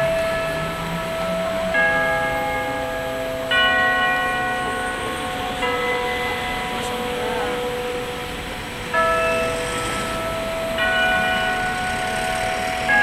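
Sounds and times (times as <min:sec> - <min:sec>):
city traffic hum: 0:00.0 - 0:13.0
clock tower bells chiming: 0:00.0 - 0:13.0.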